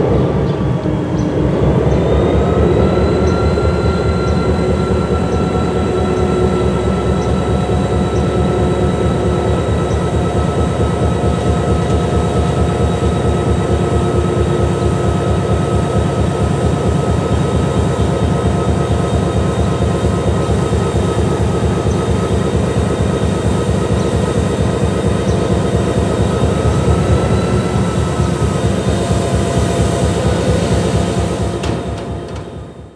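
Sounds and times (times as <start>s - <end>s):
diesel locomotive engine idling: 0.0s - 32.9s
steady whine: 0.0s - 32.9s.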